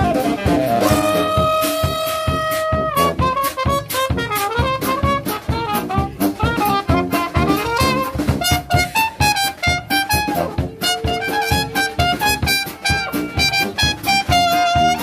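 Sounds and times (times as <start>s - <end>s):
bass drum beat: 0.0s - 15.0s
trumpet melody: 0.0s - 15.0s
tuba bass line: 0.0s - 15.0s.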